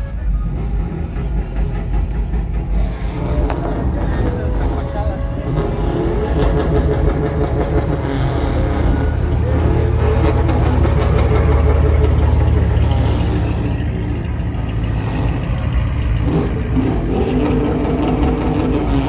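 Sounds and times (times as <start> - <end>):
truck engine drone: 0.0 - 19.0.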